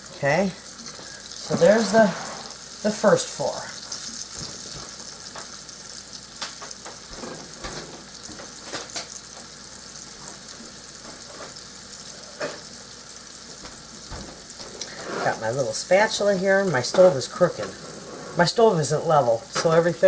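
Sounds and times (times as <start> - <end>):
meat sizzling in a frying pan: 0.0 - 20.0.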